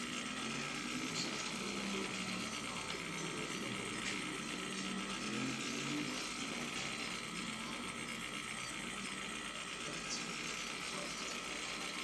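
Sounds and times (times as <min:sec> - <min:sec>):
model ride motor and gears running: 0:00.0 - 0:12.0.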